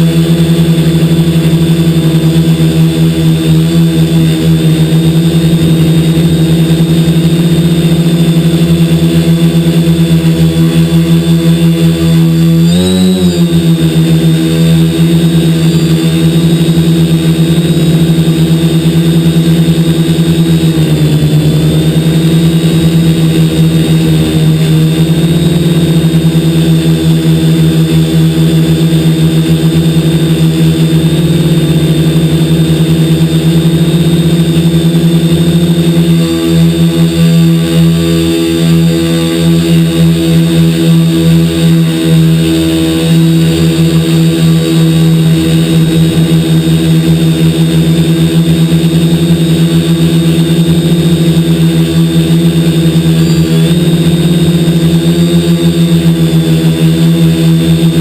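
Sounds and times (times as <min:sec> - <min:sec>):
quadcopter motors humming: 0:00.0 - 0:58.0.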